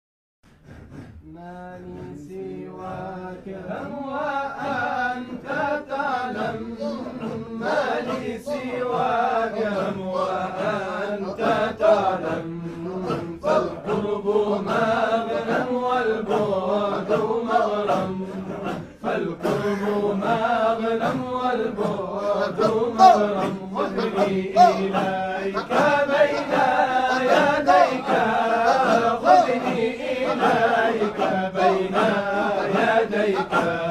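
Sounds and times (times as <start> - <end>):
group of voices chanting: 0.5 - 33.9.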